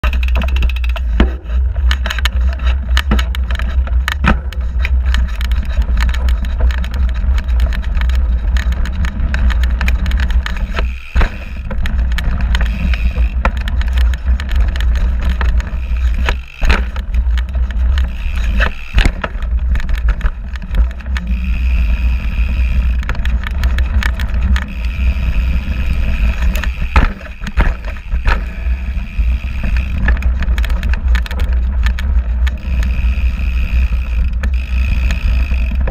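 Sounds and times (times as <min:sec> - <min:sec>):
low rumble of bike riding: 0:00.0 - 0:35.9.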